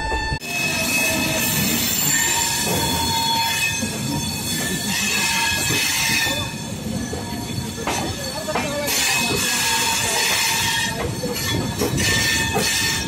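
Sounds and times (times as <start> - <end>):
train running rumble: 0.0 - 13.0
train wheels squealing: 0.0 - 13.0.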